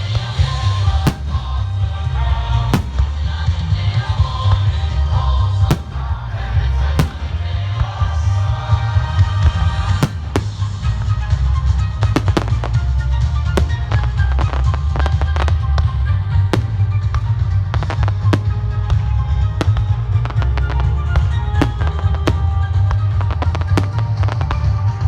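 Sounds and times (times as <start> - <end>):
fireworks bangs: 0.0 - 25.0
loud music: 0.0 - 25.0.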